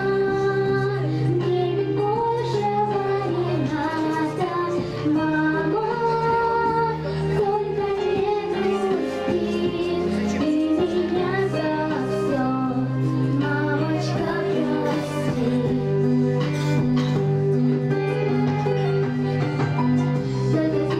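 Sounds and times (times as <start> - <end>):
girl singing: 0.0 - 16.2, 20.2 - 20.9
instrumental accompaniment: 0.0 - 20.9.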